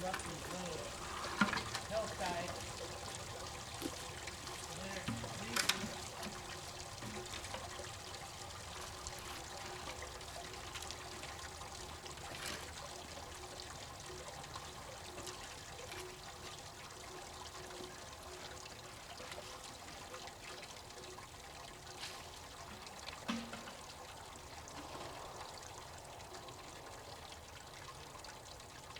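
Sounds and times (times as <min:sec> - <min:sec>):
water running and trickling: 0:00.0 - 0:28.9.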